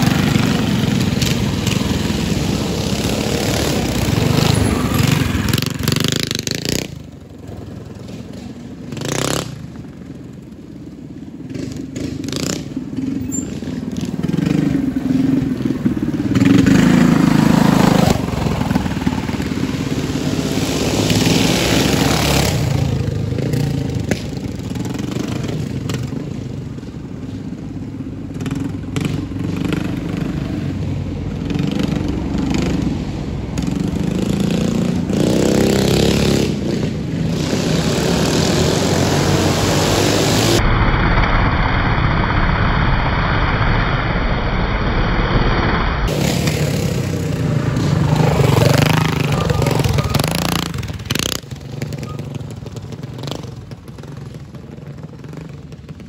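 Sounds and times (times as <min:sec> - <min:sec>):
mini bike engines revving: 0:00.0 - 0:40.6, 0:46.1 - 0:56.0.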